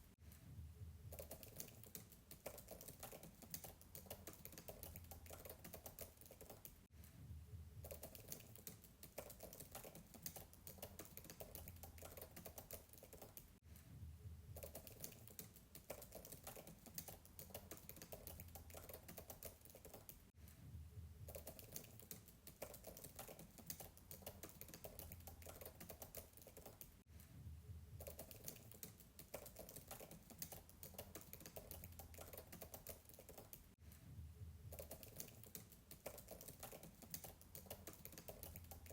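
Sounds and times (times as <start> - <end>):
fast typing on keyboard: 1.1 - 6.9, 7.8 - 13.6, 14.6 - 20.3, 21.3 - 27.0, 28.0 - 33.8, 34.7 - 38.9.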